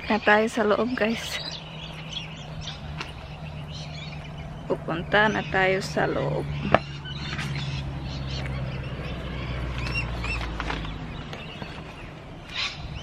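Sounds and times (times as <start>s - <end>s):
bird chirps: 0.0s - 13.0s
steady low hum: 0.0s - 13.0s.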